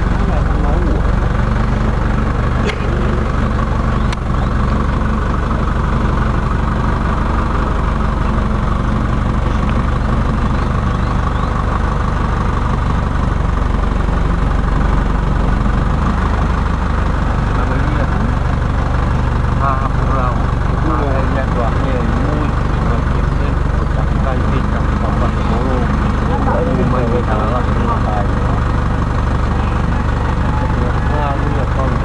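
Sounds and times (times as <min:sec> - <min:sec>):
truck engine droning: 0:00.0 - 0:32.0.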